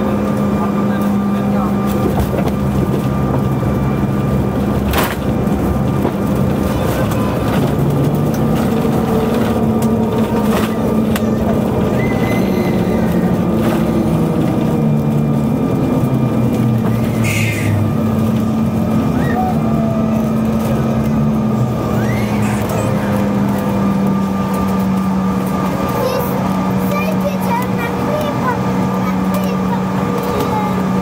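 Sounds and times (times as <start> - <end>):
airliner engines and wheels rumbling: 0.0 - 31.0.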